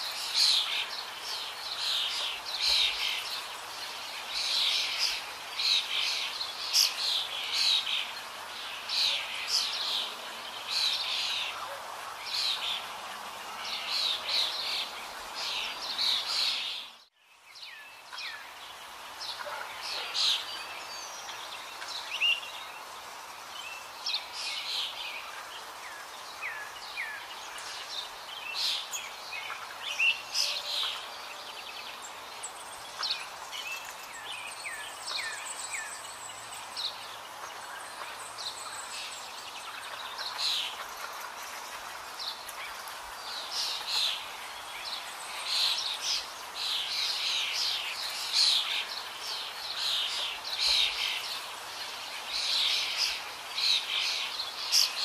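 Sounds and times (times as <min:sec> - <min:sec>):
small birds chirping: 0:00.0 - 0:55.0
steady outdoor hiss: 0:00.0 - 0:55.0.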